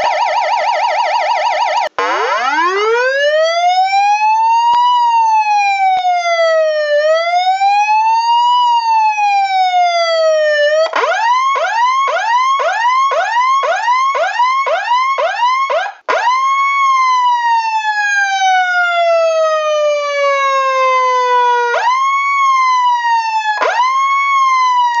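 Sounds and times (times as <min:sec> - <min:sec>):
emergency vehicle siren: 0:00.0 - 0:25.0.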